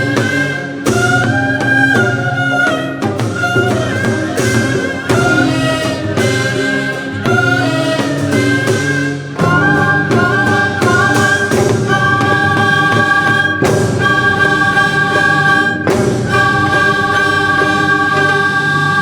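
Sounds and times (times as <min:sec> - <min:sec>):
orchestra holding sustained notes: 0:00.0 - 0:19.0
percussion strokes: 0:00.0 - 0:19.0.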